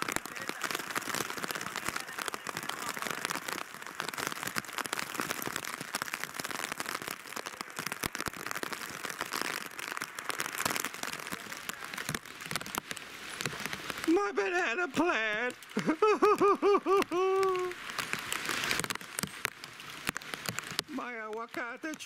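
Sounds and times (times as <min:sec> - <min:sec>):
heavy rain splashing: 0:00.0 - 0:22.0.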